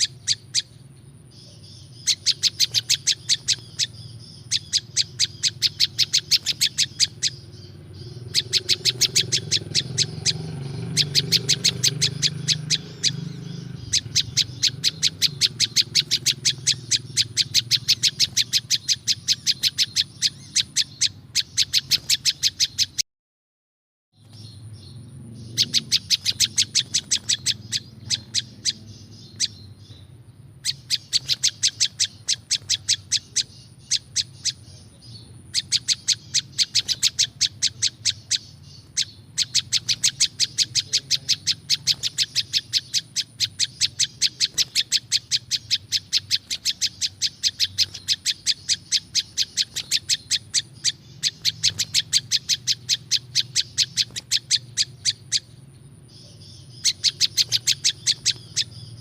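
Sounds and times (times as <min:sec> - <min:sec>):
songbird rapid chip notes: 0:00.0 - 0:23.0, 0:24.2 - 0:59.0.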